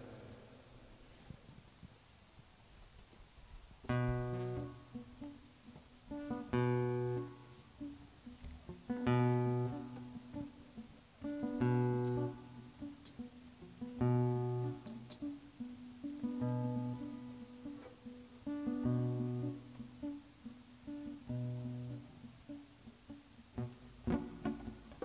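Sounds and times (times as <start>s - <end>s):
picked guitar notes: 3.9s - 25.0s.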